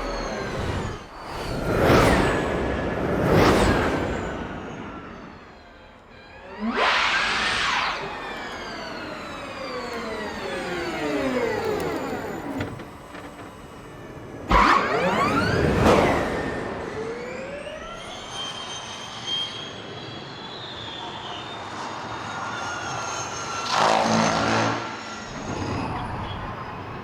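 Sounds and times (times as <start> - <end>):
car accelerating with rising whine: 0.0 - 27.0
electric race cars whining past: 0.0 - 27.0.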